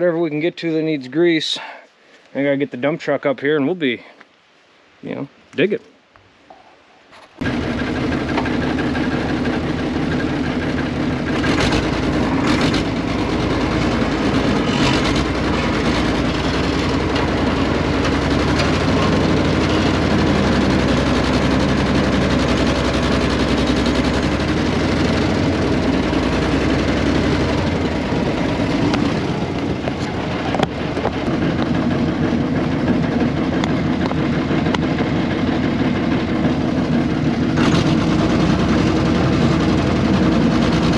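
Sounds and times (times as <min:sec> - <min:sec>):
diesel engine running: 0:07.4 - 0:40.9.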